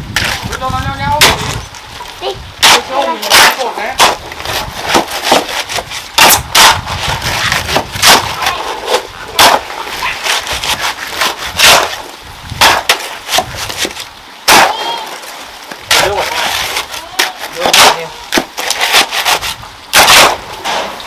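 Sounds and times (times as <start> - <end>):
hand tool scraping: 2.6 - 21.0.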